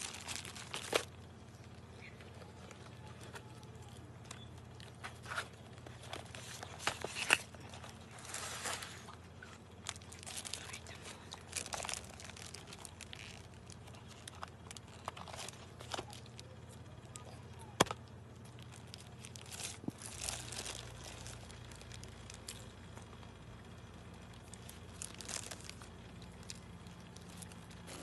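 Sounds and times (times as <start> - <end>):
food packaging crinkling: 0.0 - 1.9, 2.7 - 17.2, 17.8 - 23.2, 24.0 - 28.0.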